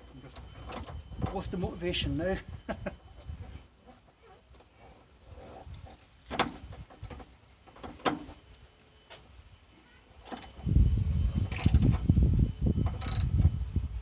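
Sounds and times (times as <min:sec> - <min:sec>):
low rumbling handling clatter: 0:00.0 - 0:08.4, 0:10.3 - 0:13.6.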